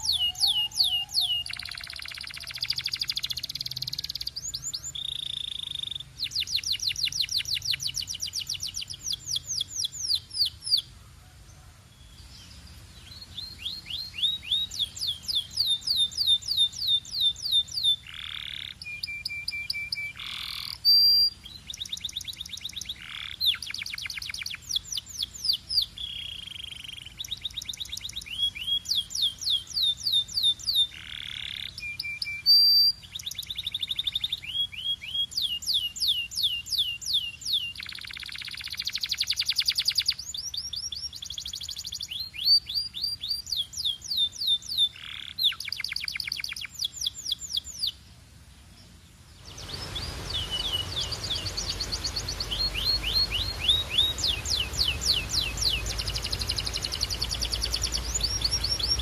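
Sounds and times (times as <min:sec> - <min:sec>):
canary singing trills: 0:00.0 - 0:10.9, 0:12.0 - 0:48.0, 0:48.9 - 0:59.0.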